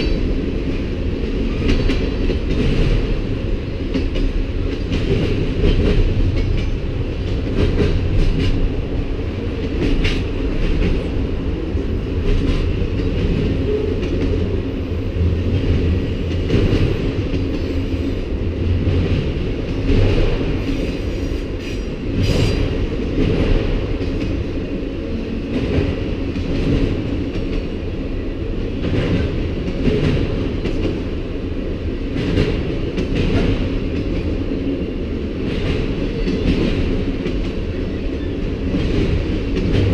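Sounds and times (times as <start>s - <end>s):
clicks and clunks of freight cars: 0.0s - 39.9s
train wheels rumbling on rail: 0.0s - 39.9s.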